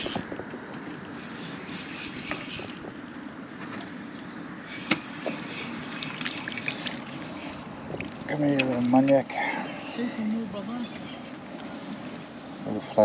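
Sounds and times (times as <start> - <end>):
boat background noise: 0.0 - 13.0.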